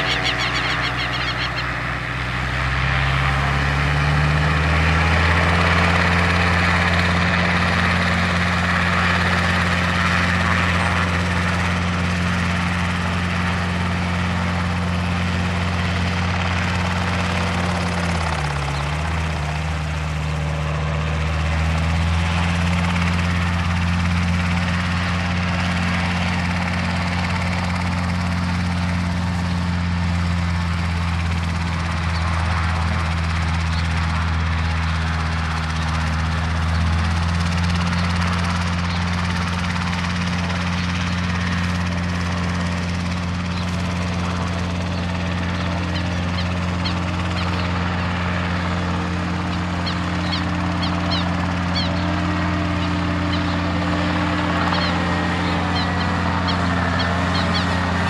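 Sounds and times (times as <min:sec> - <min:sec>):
microlight engine and propeller: 0:00.0 - 0:58.0.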